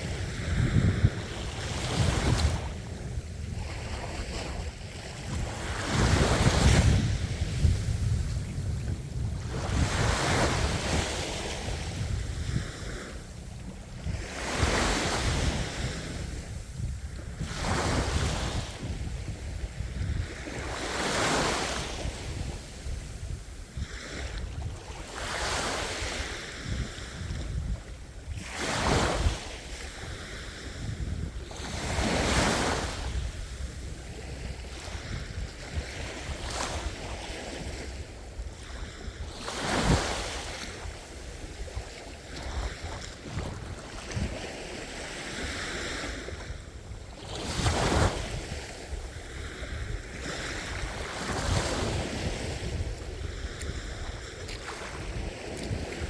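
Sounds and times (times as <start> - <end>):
sea waves breaking on shore: 0.0 - 56.0
wind rumble on microphone: 0.0 - 56.0.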